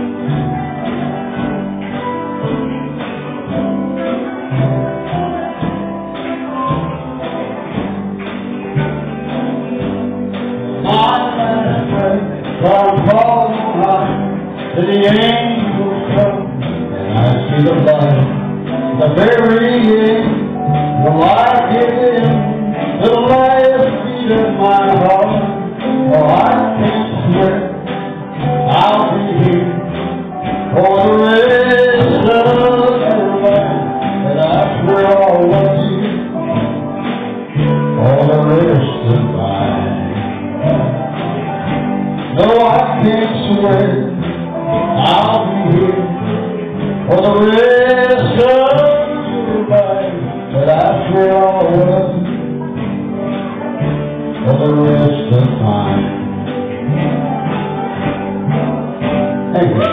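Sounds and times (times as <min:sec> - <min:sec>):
steel guitar gliding notes: 0:00.0 - 0:59.9
strummed acoustic guitars: 0:00.0 - 0:59.9.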